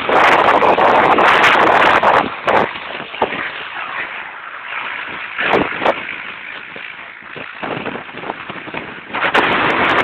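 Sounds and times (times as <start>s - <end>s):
helicopter rotors and engines: 0.0s - 10.0s
wind buffeting microphone: 0.0s - 10.0s.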